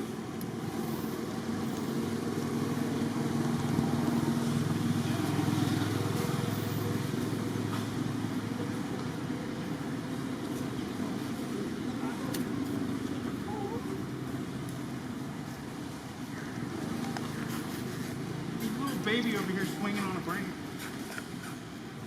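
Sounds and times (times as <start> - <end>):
vehicle engine running: 0.0 - 20.7.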